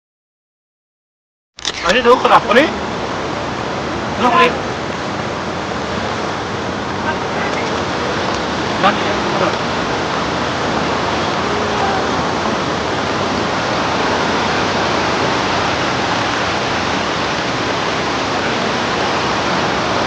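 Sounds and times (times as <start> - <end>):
fast-flowing river rushing: 1.7 - 20.0.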